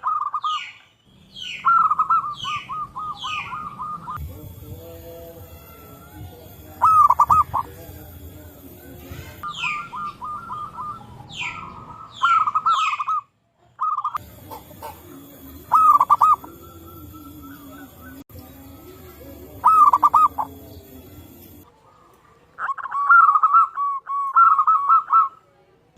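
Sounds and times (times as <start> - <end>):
doves cooing trills: 0.0 - 25.5.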